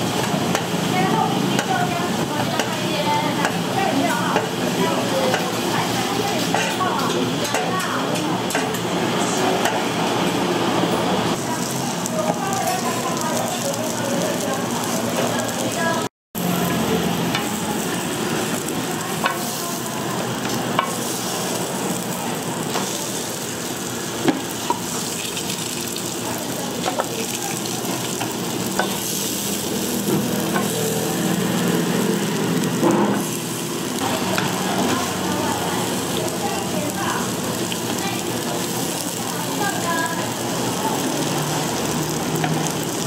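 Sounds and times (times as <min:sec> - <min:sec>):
food sizzling in hot oil: 0:00.0 - 0:43.0.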